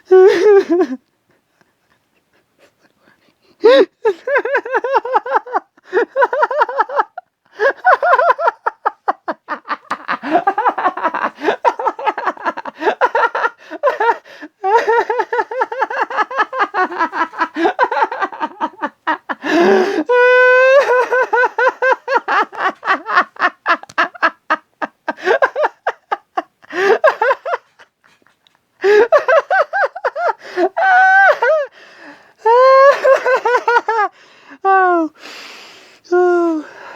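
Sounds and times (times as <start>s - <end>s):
person laughing hard: 0.1s - 1.1s, 3.6s - 31.7s, 32.4s - 34.1s.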